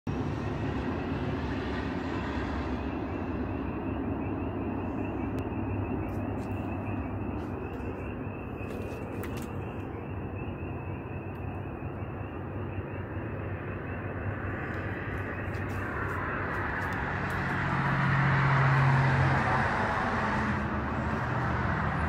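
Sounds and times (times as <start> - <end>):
train rumbling past: 0.1 - 22.0.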